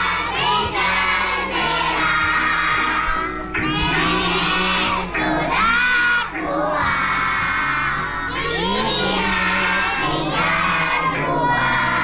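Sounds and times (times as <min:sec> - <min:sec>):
backing music track: 0:00.0 - 0:12.0
children singing: 0:00.0 - 0:12.0.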